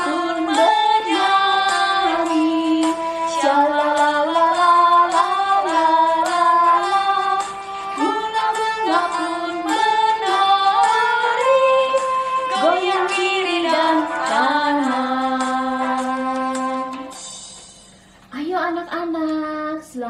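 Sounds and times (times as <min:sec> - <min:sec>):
woman singing children's song: 0:00.0 - 0:17.2, 0:18.3 - 0:20.0
instrumental accompaniment with beat: 0:00.0 - 0:18.3.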